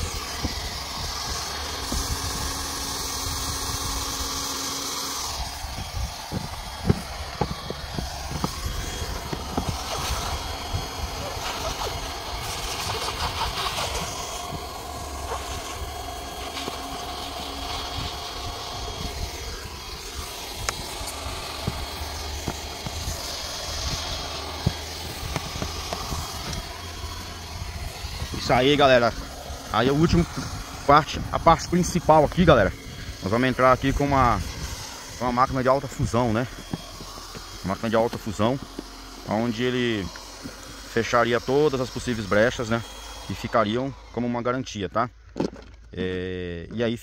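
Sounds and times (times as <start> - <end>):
hot-air gun whooshing hiss: 0.0 - 44.4.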